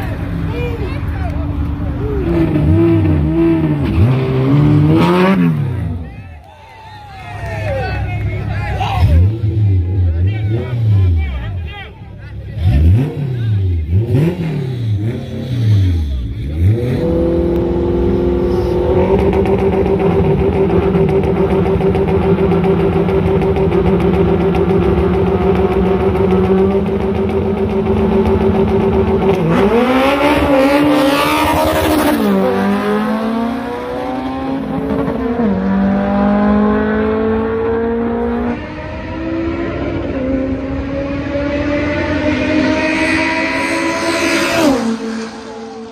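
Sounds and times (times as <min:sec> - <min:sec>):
car engines revving: 0:00.0 - 0:06.5, 0:07.2 - 0:45.9.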